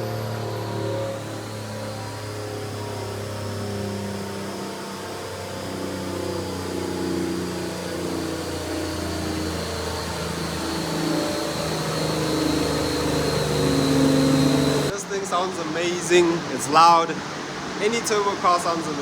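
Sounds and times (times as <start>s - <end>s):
car engine revving: 0.0s - 17.9s
high turbo whine: 0.0s - 19.0s.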